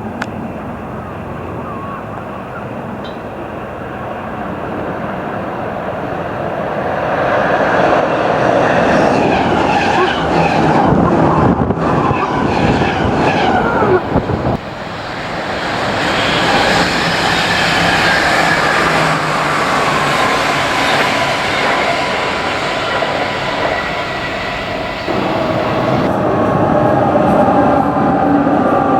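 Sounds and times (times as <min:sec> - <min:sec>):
thin steady whine: 0:00.0 - 0:28.9
train passing on rails: 0:00.0 - 0:28.9.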